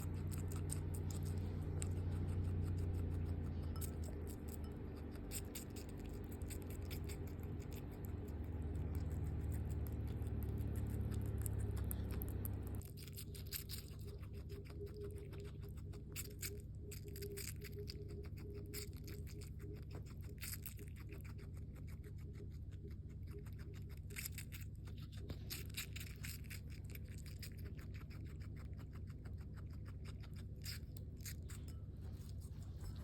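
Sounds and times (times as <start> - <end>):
guinea pig chewing: 0.0 - 33.0
steady low hum: 0.0 - 33.0.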